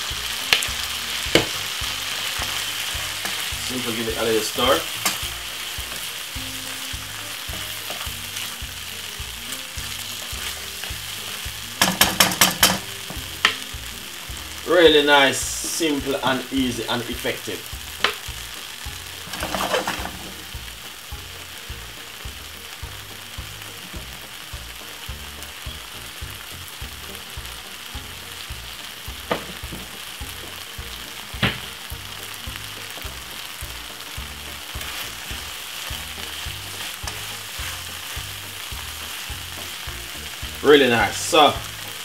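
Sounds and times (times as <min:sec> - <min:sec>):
food sizzling in frying pan: 0:00.0 - 0:42.0.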